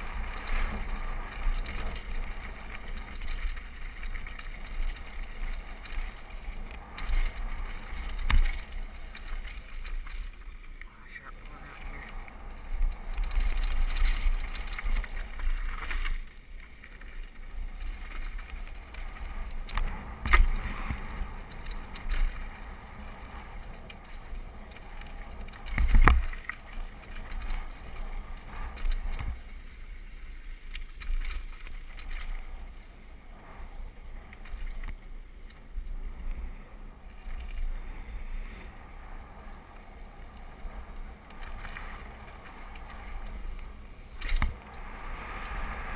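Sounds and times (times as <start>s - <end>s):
bike rattling: 0.0s - 45.9s
wind rumble on microphone: 0.0s - 45.9s.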